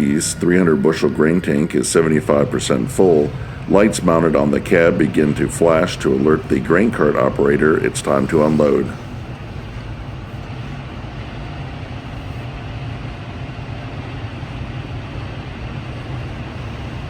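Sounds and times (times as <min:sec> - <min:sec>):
combine harvester humming: 0:00.0 - 0:17.0.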